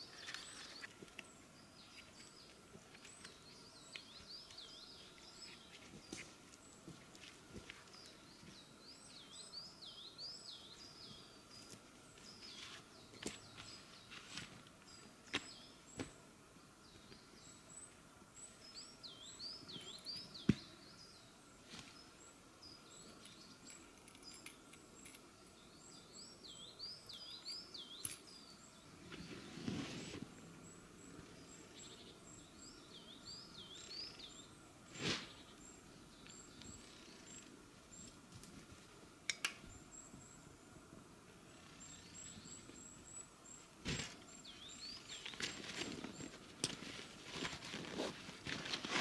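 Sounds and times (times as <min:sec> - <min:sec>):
birds warbling song: 0:00.0 - 0:06.8, 0:07.7 - 0:38.2, 0:39.4 - 0:49.0.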